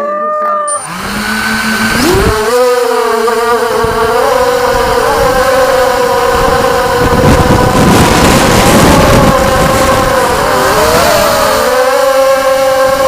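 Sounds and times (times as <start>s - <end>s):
quadcopter buzzing whine: 0.0s - 13.0s.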